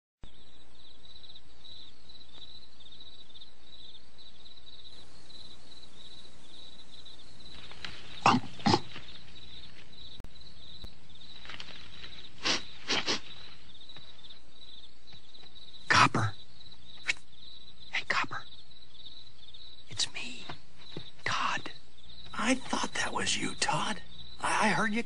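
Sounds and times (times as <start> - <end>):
crickets chirping: 0.2 - 25.0.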